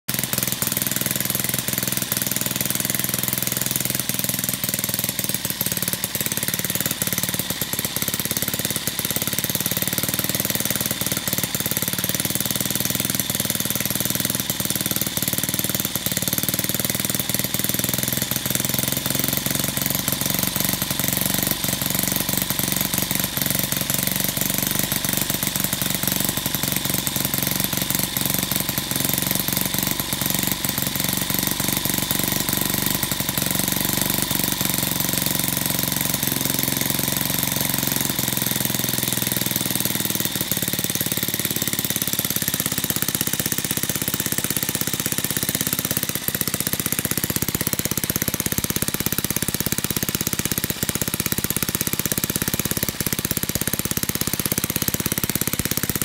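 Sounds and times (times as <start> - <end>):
model engine clattering: 0.1 - 56.0.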